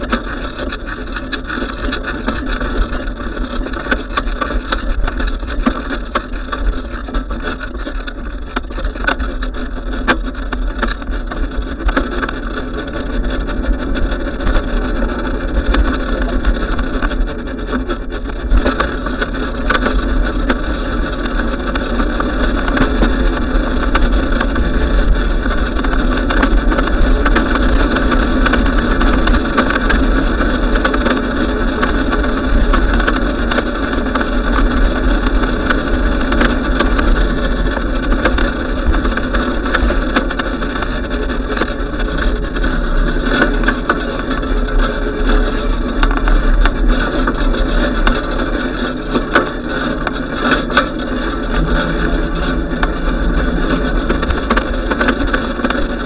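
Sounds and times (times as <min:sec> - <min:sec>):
bicycle clicks and rattles: 0:00.0 - 0:56.0
bicycle tyres rumbling on pavement: 0:00.0 - 0:56.0.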